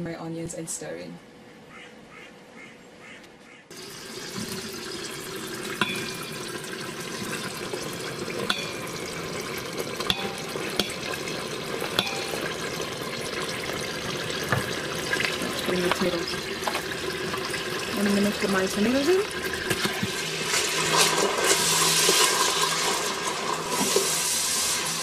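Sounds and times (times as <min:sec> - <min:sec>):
onions sizzling in hot oil: 0:03.7 - 0:25.0.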